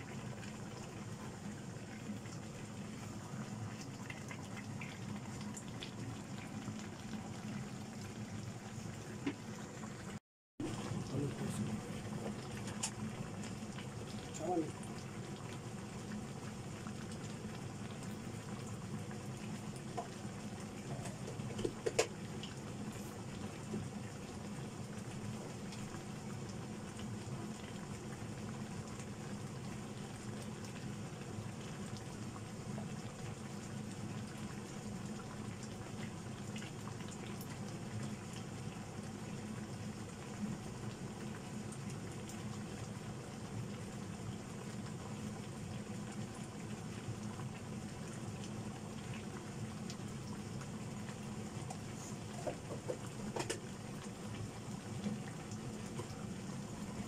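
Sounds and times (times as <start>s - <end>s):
chicken simmering in wok: 0.0s - 57.0s.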